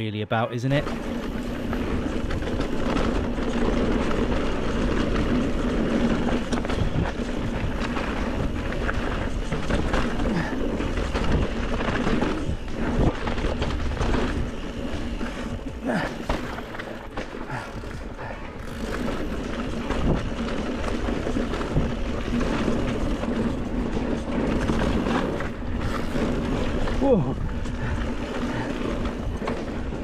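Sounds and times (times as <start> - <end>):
bike tyre and trail noise: 0.0 - 30.0.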